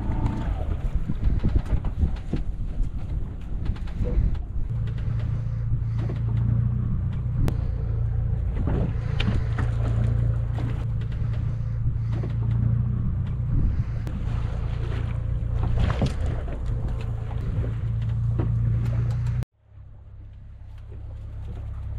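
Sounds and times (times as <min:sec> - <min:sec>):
boat engine humming: 0:00.0 - 0:21.9.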